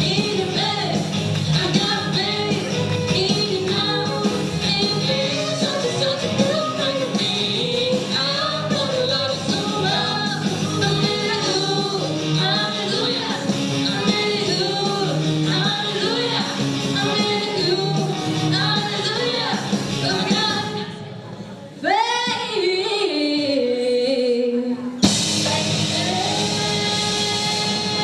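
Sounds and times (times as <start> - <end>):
drums and cymbals crashing: 0.0 - 20.8, 25.0 - 28.0
rock band playing: 0.0 - 21.0, 25.0 - 28.0.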